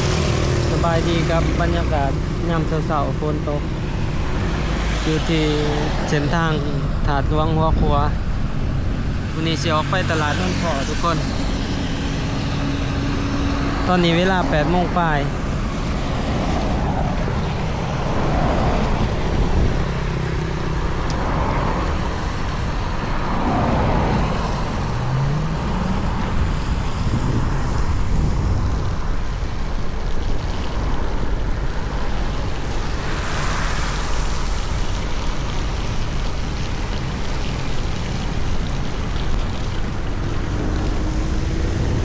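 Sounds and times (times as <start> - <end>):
tyre hiss on wet road: 0.0 - 7.1, 9.0 - 42.0
vehicle rumble: 0.0 - 42.0.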